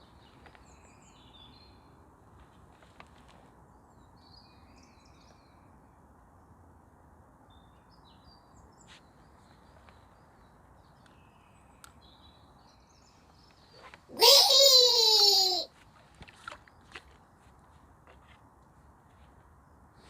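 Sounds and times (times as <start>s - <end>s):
faint birds chirping: 0.0s - 20.0s
low steady background noise: 0.0s - 20.0s.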